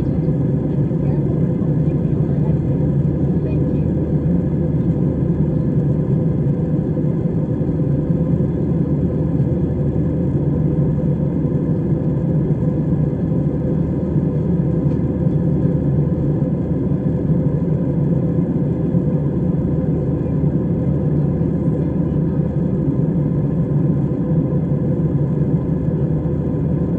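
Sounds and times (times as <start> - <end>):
airliner cabin drone: 0.0 - 26.9.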